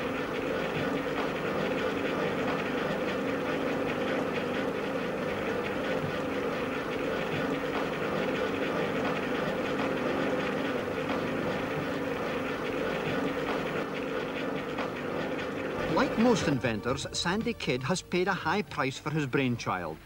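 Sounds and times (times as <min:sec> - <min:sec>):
fast rattle: 0:00.0 - 0:17.4
mechanical whirring hum: 0:00.0 - 0:20.0.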